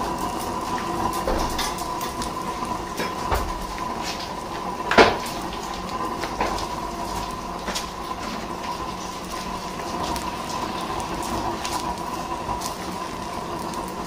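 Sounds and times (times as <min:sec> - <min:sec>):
fire crackling and snapping: 0:00.0 - 0:14.0.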